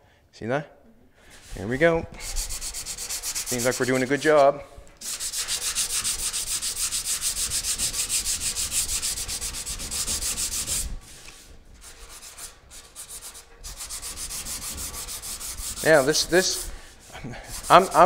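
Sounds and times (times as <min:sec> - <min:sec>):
sandpaper sanding strokes: 0:01.3 - 0:04.4, 0:05.0 - 0:18.0.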